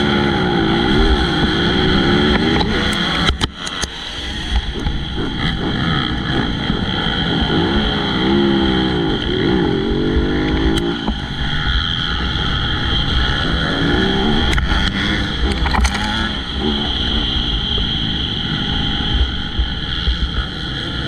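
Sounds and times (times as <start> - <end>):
motocross bike engine revving: 0.0 - 21.0
steady low rumble: 0.0 - 21.0.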